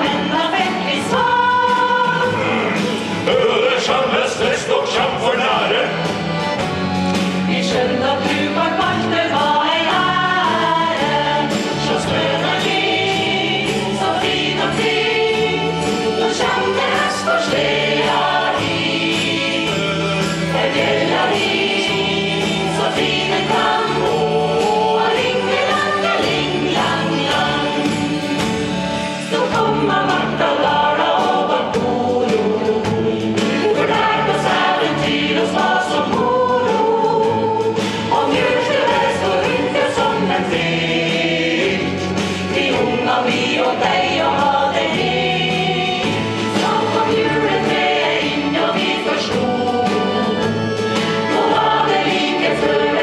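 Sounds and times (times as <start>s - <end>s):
choir singing a christmas song: 0.0s - 53.0s.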